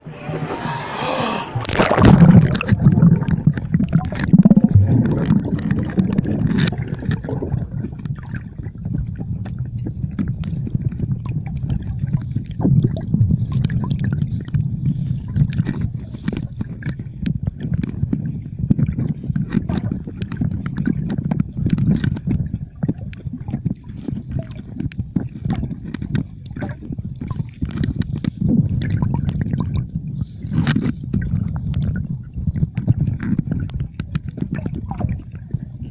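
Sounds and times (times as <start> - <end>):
sea water sloshing and gurgling: 0.0 - 35.9.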